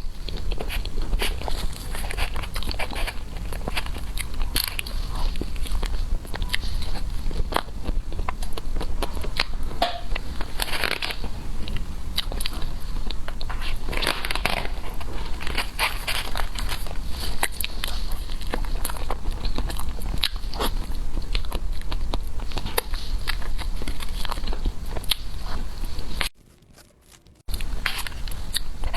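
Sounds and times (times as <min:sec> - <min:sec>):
steady low hum: 0:00.0 - 0:26.4, 0:27.4 - 0:28.9
biting and chewing: 0:00.0 - 0:28.9.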